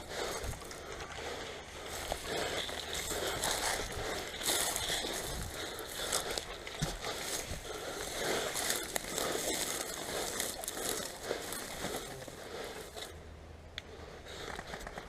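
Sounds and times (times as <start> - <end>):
dry leaves and twigs crackling: 0.0 - 13.2.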